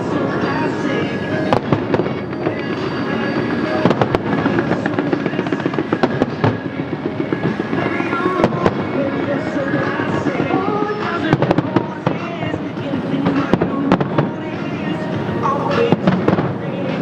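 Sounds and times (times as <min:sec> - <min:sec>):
fireworks crackling: 0:00.0 - 0:17.0
sharp firework bangs: 0:00.5 - 0:17.0.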